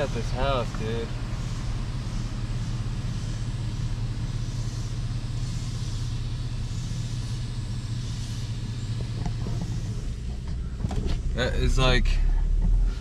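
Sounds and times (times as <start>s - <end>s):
car driving heard from cabin: 0.0s - 13.0s.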